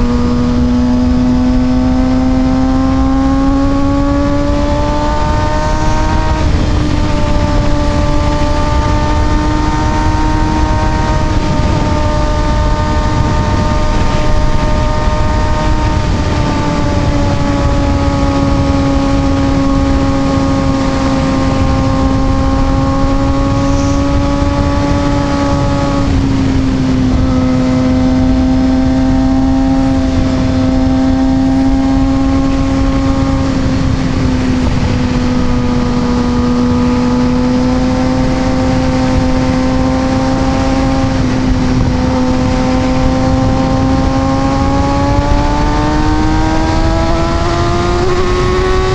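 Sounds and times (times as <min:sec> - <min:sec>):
motorcycle engine cruising: 0:00.0 - 0:48.9
wind noise rushing: 0:00.0 - 0:48.9.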